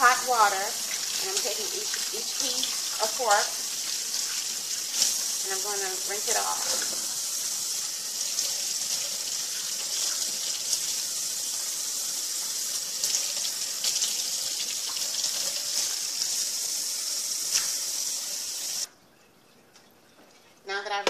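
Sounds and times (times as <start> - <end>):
faucet running into sink: 0.0 - 18.9.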